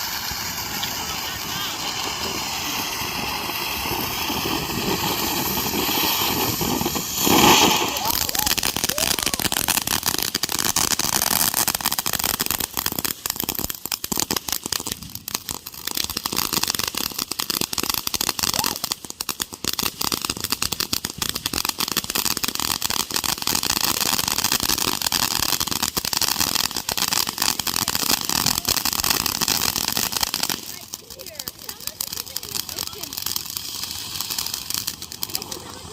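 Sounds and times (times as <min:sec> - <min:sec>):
fireworks crackling and popping: 0:00.0 - 0:35.9.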